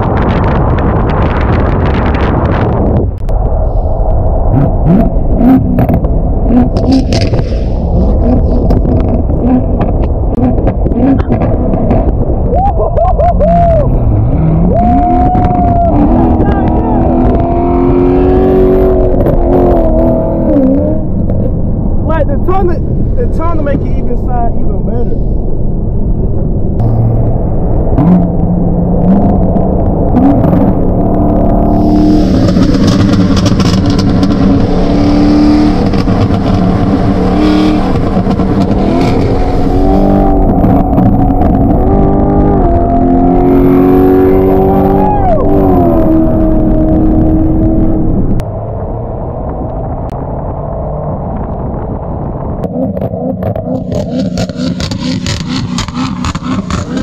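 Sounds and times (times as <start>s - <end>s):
exhaust crackling: 0.0s - 57.0s
car engine accelerating hard: 4.4s - 25.9s, 26.5s - 57.0s.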